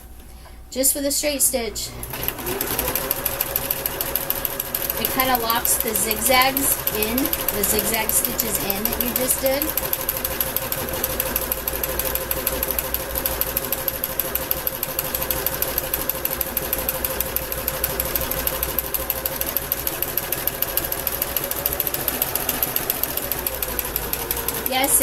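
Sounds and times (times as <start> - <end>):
electric sewing machine running: 1.6 - 25.0.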